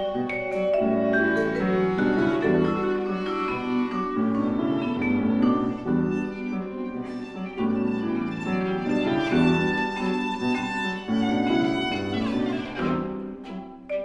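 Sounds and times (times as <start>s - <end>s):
keyboard accompaniment: 0.0s - 14.0s.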